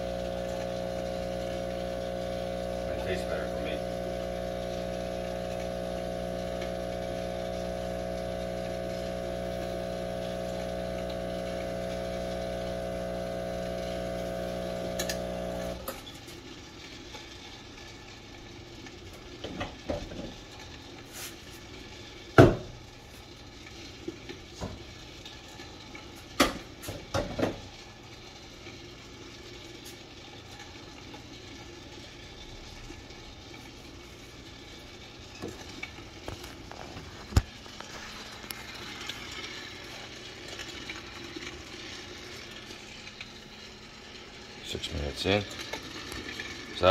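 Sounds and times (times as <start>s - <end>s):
coffee machine humming: 0.0s - 21.0s, 27.4s - 46.9s.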